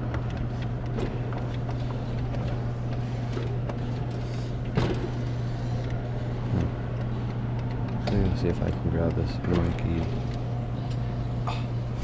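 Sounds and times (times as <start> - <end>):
claw machine humming: 0.0 - 12.0.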